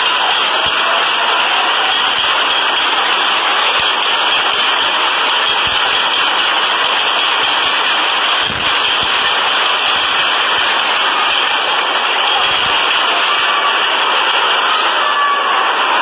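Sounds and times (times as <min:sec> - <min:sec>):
subway train rushing: 0:00.0 - 0:16.0.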